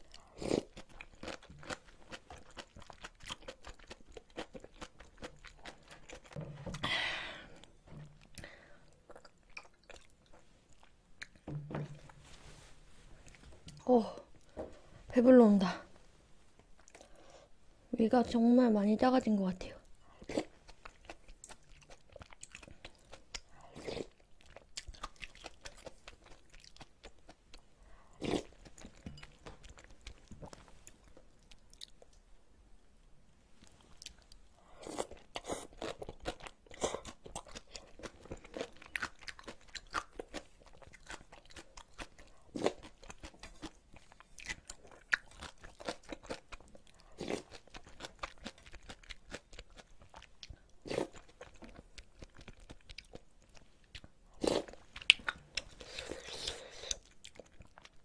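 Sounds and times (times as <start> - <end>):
chewing and crunching noodles: 0.0 - 6.4, 7.6 - 11.4, 19.8 - 32.2, 33.6 - 58.0.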